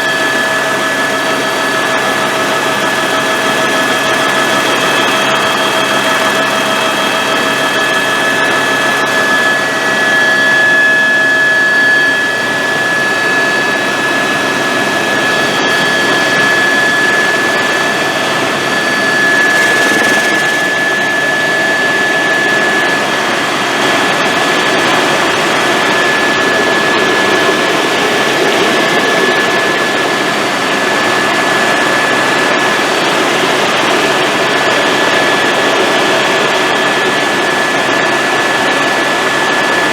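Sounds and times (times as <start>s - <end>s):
helicopter engine and rotor noise: 0.0s - 39.9s
helicopter turbine whine: 0.0s - 39.9s.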